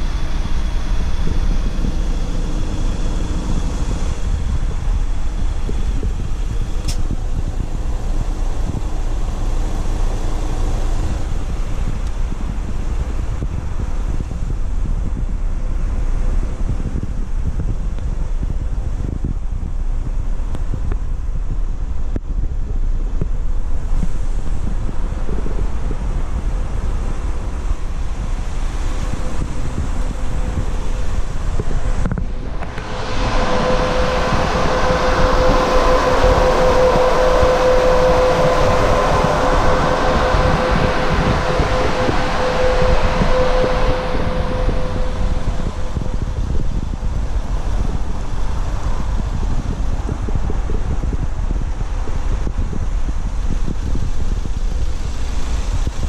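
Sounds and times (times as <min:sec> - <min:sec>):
thin steady whine: 0:00.0 - 0:56.0
wind buffeting microphone: 0:00.0 - 0:56.0.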